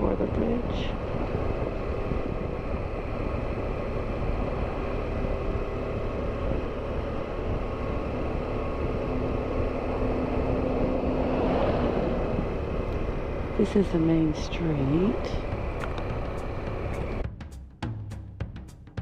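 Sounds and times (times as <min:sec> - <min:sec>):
motorcycle engine running: 0:00.0 - 0:17.4
wind and road noise: 0:00.0 - 0:17.4.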